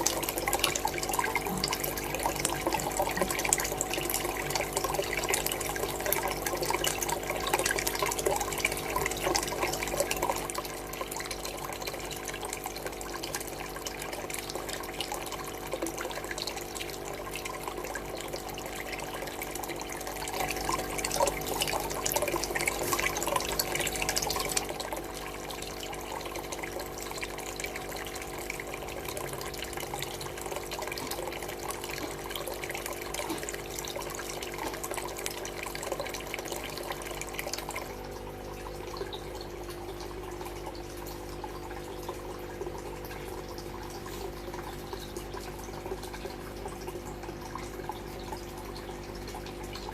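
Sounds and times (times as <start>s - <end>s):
water trickling and splashing: 0.0s - 49.9s.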